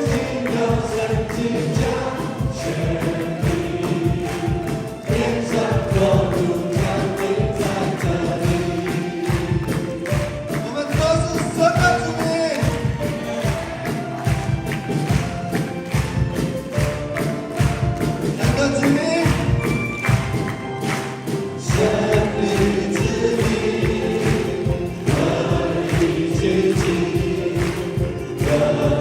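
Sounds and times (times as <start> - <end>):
group of voices singing: 0.0 - 16.0, 16.7 - 29.0
band playing steady beat: 0.0 - 29.0.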